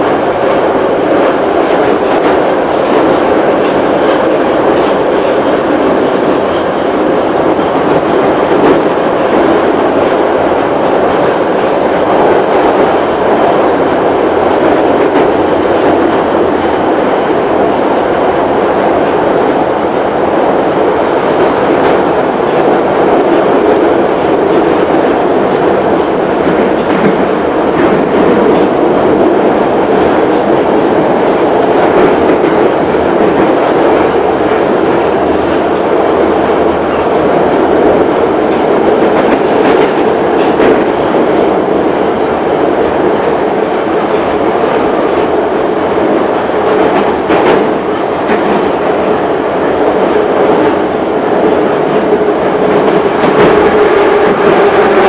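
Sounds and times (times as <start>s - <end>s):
metro train rumbling in tunnel: 0.0s - 55.0s.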